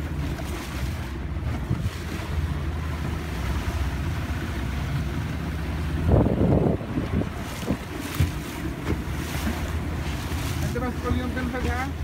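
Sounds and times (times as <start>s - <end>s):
motorboat engine running: 0.0s - 12.0s
water rushing past hull: 0.0s - 12.0s
wind buffeting microphone: 0.9s - 12.0s.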